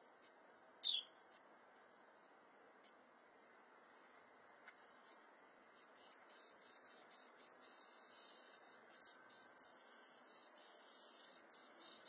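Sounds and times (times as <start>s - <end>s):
insects chirping in bursts: 0.0s - 12.0s.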